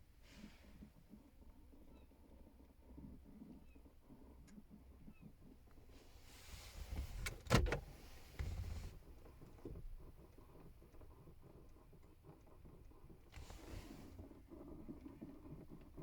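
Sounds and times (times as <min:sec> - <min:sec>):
faint irregular ticks: 0:00.2 - 0:07.4, 0:08.0 - 0:16.0.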